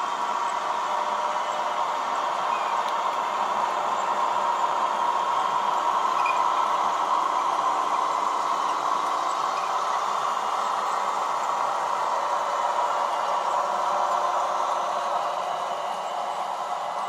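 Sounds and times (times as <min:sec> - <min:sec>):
model trains whirring on track: 0:00.0 - 0:17.0.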